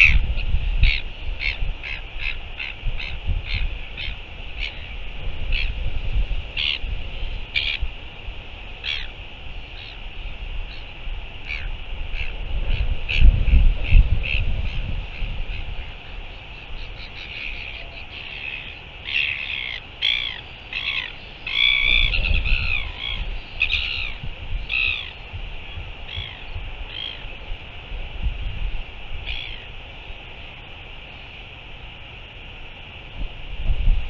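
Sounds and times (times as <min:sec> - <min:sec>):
gulls calling: 0:00.0 - 0:32.9
wind rumble on microphone: 0:00.0 - 0:34.0.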